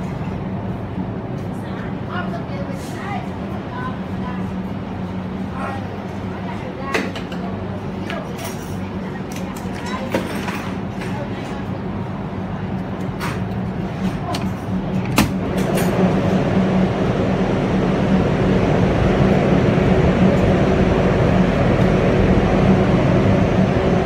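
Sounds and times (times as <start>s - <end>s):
fans whirring: 0.0s - 24.0s.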